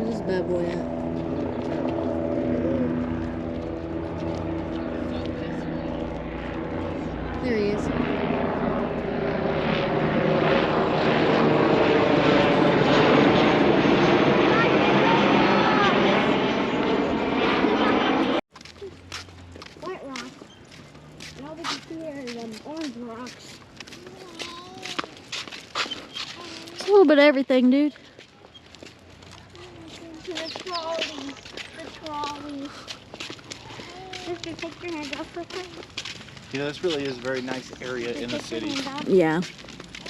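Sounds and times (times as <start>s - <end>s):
aircraft engine drone overhead: 0.0s - 27.2s, 27.9s - 40.0s.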